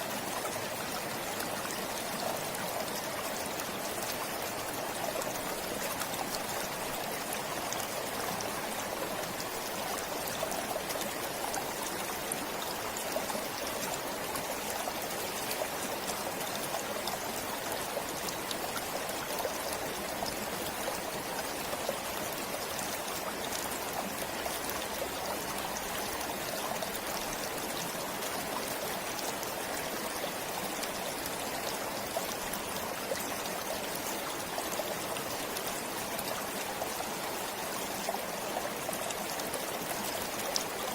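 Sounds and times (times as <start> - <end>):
forest stream flowing: 0.0 - 40.9.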